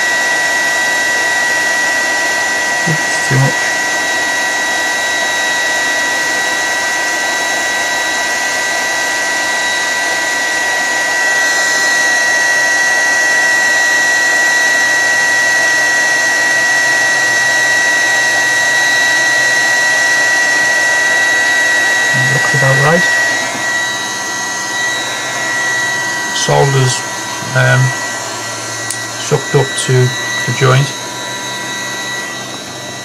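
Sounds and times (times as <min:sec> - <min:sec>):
heat gun blowing with whine: 0:00.0 - 0:33.0.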